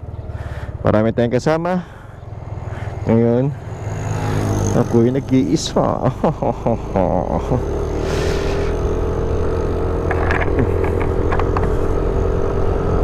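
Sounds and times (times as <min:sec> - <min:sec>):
scooter engine droning: 0:00.0 - 0:13.0.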